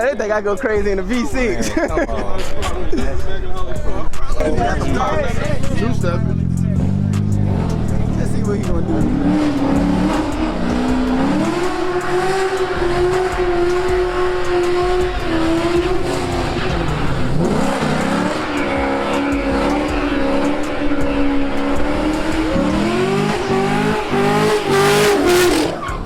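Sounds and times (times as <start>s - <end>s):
car engine revving: 0.0s - 26.0s
tires spinning in a burnout: 0.9s - 26.0s.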